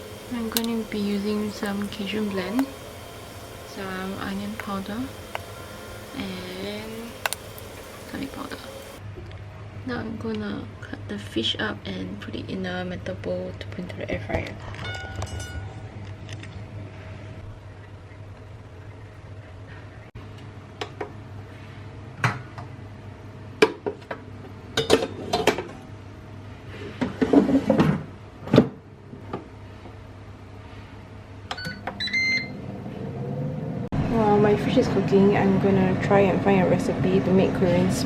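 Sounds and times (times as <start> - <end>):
low appliance hum: 0.0 - 38.0.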